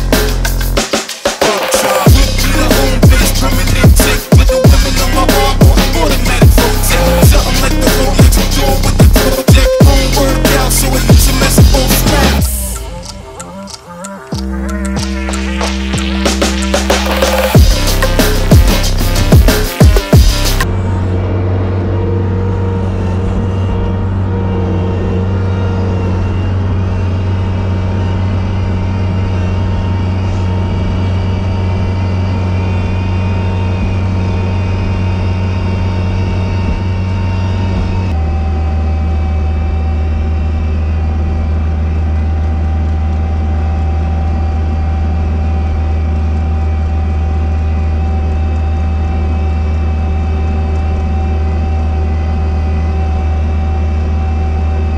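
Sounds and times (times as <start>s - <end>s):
snow-clearing machine engine running: 0.0s - 54.9s.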